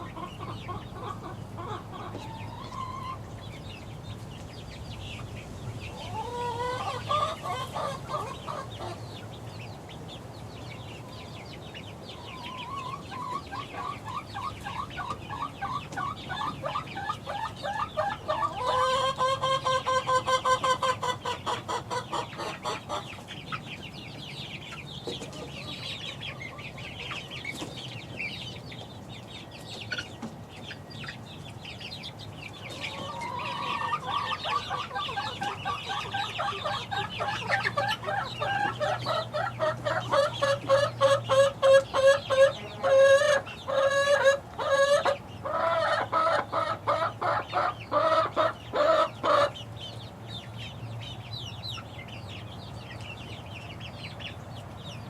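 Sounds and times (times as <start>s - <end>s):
chickens peeping: 0.0s - 55.0s.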